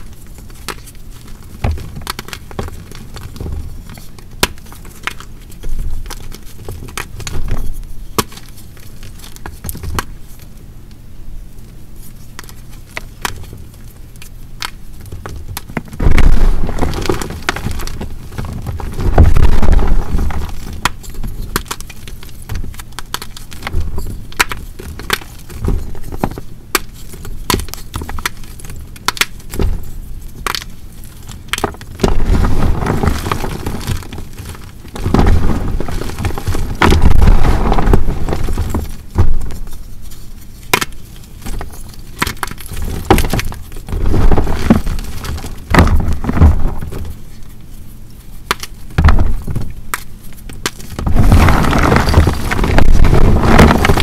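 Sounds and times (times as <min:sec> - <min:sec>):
chalk crushed and crackling: 0:00.0 - 0:10.5, 0:11.9 - 0:54.0.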